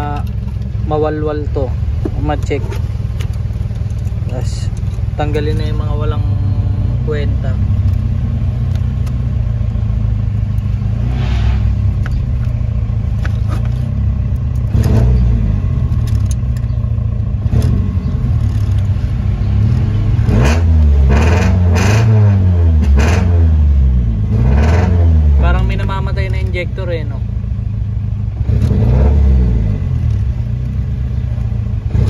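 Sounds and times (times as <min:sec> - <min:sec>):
engine idling: 0:00.0 - 0:21.8, 0:25.1 - 0:32.0.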